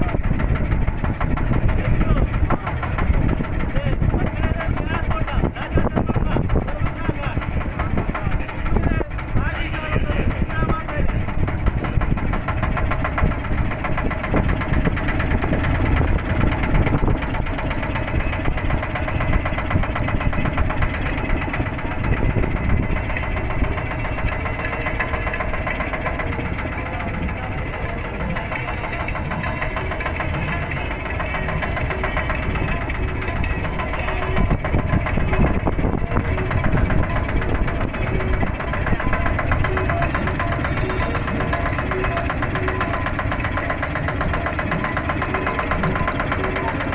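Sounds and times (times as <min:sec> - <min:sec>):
motorboat engine knocking: 0:00.0 - 0:46.9.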